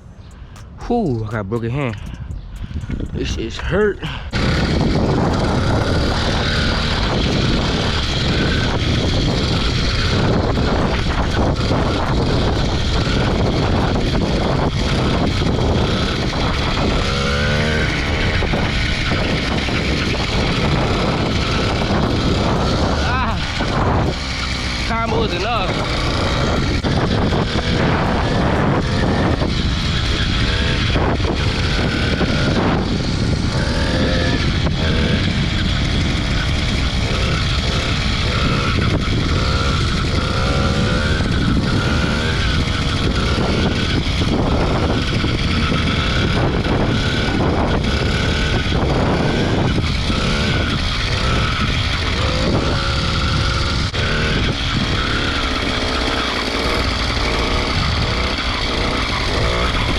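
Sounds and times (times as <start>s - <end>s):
two-stroke engine running: 0.0s - 59.9s
wind buffeting microphone: 0.0s - 59.9s.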